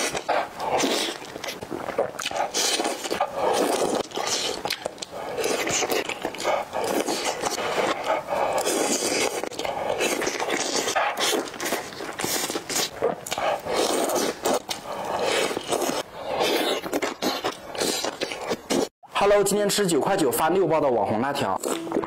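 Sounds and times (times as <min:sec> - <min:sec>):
wet chewing and slurping: 0:00.0 - 0:18.9, 0:21.5 - 0:22.0.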